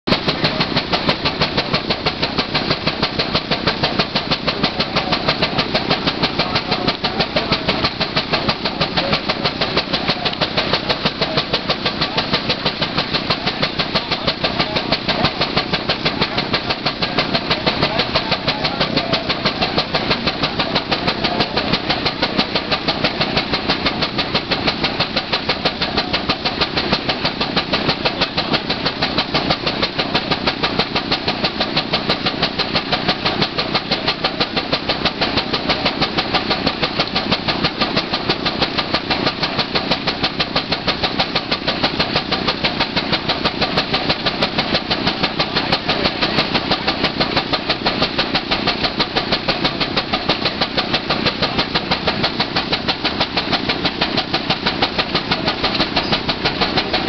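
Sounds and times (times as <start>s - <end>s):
steam engine exhaust chuffing: 0.0s - 57.0s.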